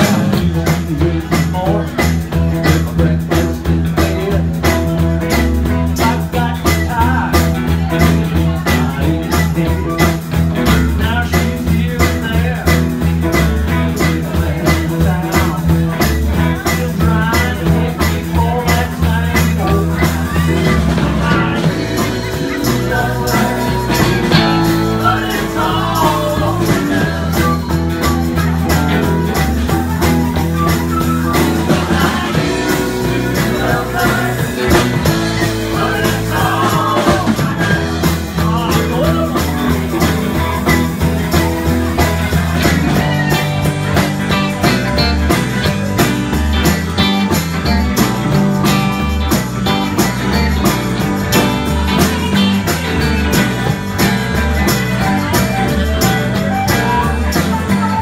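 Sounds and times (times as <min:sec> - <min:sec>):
person singing: 0:00.0 - 0:46.0, 0:49.8 - 0:58.0
live rock band playing: 0:00.0 - 0:58.0.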